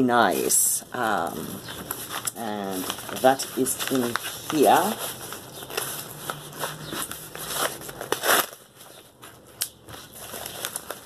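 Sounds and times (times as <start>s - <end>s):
envelope crinkling: 1.0s - 11.0s.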